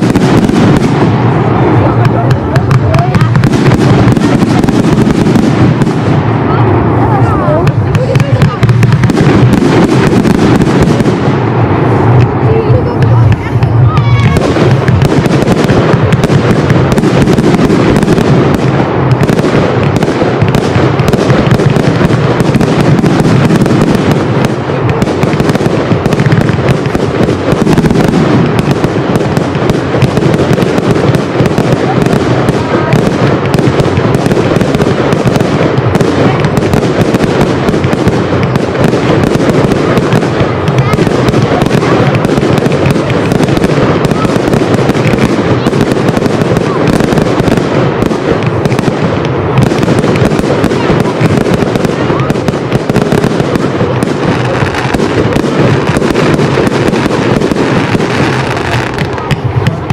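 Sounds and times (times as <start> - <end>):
fireworks crackling: 0.0 - 59.9
fireworks launches and bursts: 0.0 - 59.9.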